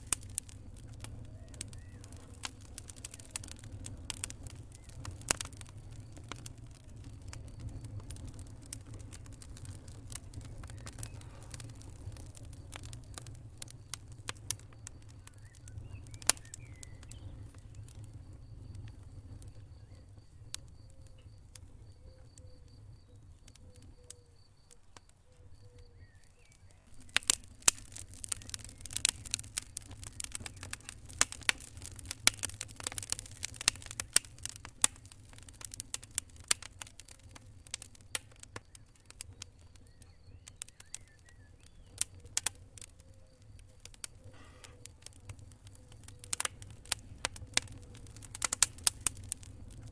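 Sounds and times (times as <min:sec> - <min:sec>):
fire crackling and popping: 0:00.0 - 0:49.9
low rumble of flames: 0:00.0 - 0:49.9.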